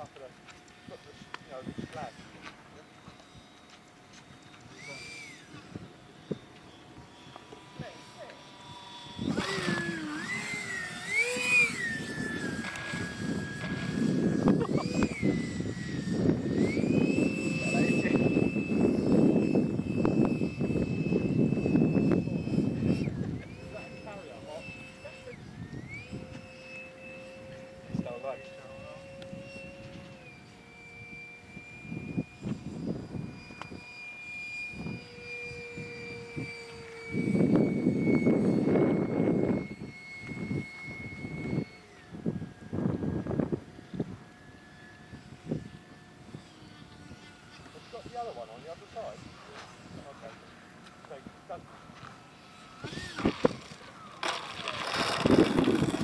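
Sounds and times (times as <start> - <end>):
model jet high-pitched whine: 0.0 - 56.0.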